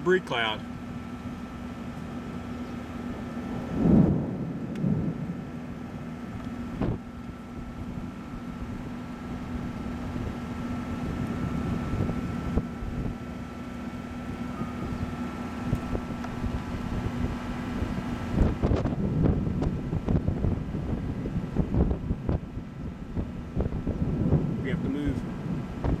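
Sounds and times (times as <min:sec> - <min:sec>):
steady low hum: 0:00.0 - 0:26.0
wind and storm noise: 0:00.0 - 0:26.0
loud rumbles: 0:03.0 - 0:26.0.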